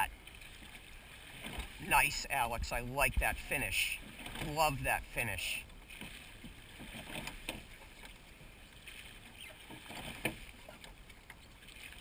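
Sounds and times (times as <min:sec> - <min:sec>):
oars pulling through water: 0:00.0 - 0:12.0.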